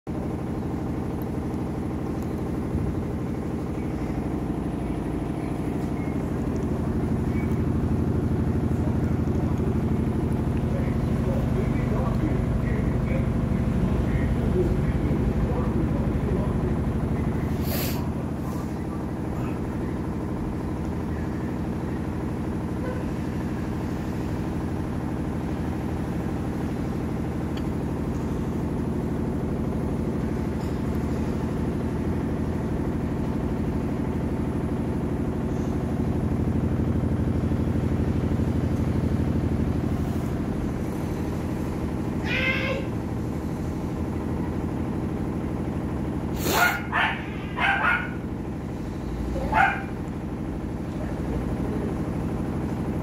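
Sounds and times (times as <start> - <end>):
washing machine motor hum: 0.1 - 53.0.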